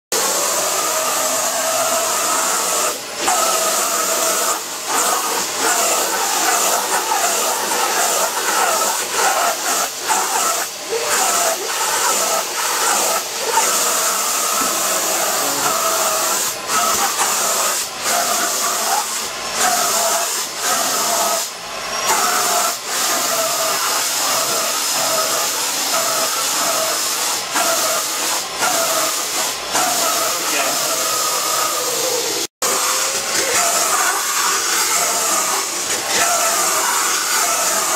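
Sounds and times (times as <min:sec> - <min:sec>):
vacuum cleaner running: 0:00.1 - 0:37.9.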